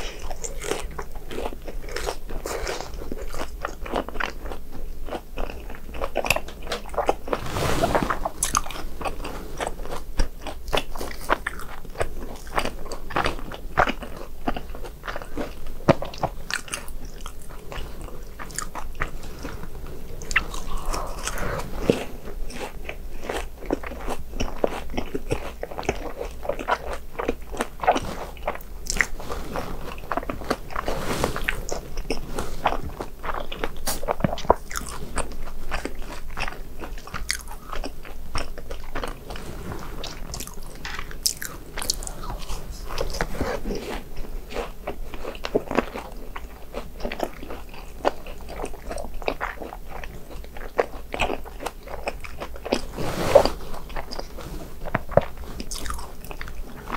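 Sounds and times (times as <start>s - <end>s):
person chewing crunchy snacks: 0.0s - 56.9s.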